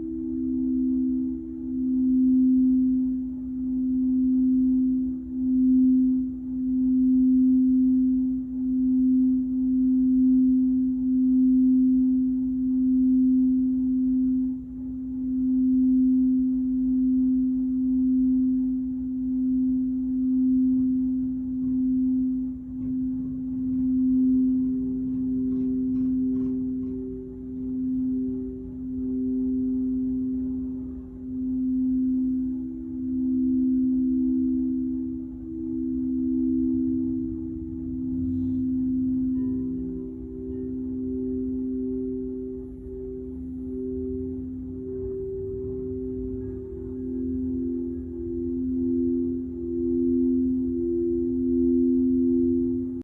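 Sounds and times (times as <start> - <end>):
singing bowl ringing: 0.0 - 53.0.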